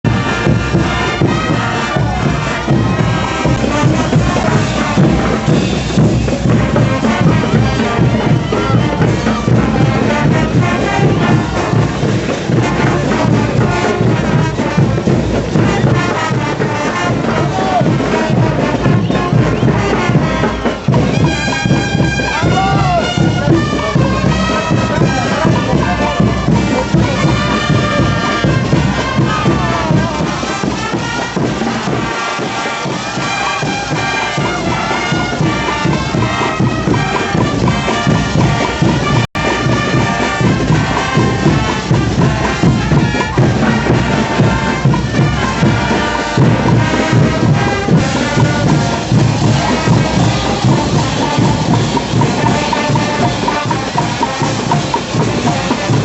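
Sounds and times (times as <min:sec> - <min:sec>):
steady drum beat: 0:00.0 - 0:56.0
sustained horn notes: 0:00.1 - 0:56.0.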